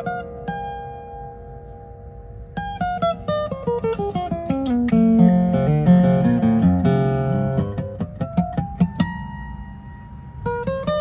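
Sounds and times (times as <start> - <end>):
acoustic guitar fingerpicked: 0.0 - 11.0.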